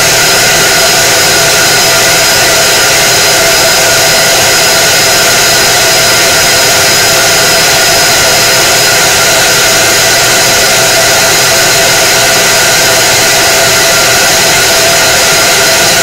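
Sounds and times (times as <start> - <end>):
laser cutter whirring: 0.0 - 16.0.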